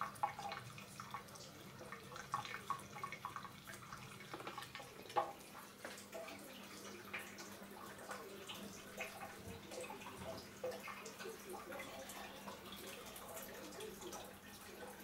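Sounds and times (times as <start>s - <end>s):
tap water trickling into basin: 0.0s - 15.0s.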